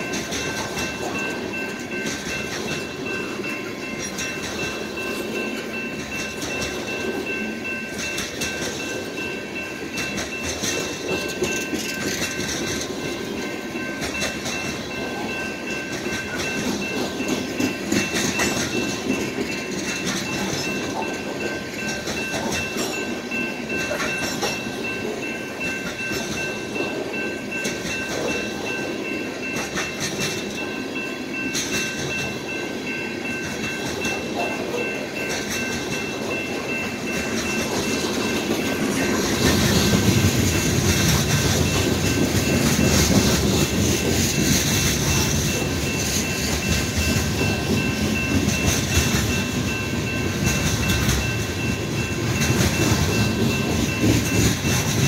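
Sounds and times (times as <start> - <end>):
crossing signal bell ringing: 0.0 - 55.0
train wheels clacking over rails: 0.0 - 55.0.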